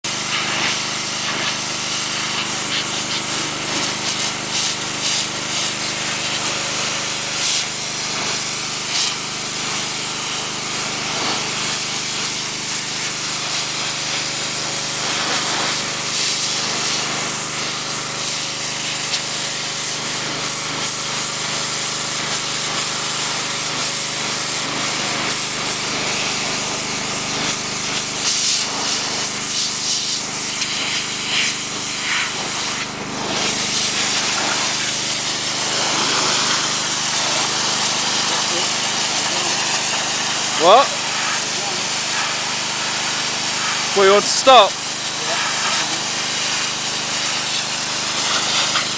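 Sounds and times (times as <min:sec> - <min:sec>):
pressure washer spray hissing: 0:00.0 - 0:48.9
pump humming: 0:00.0 - 0:48.9.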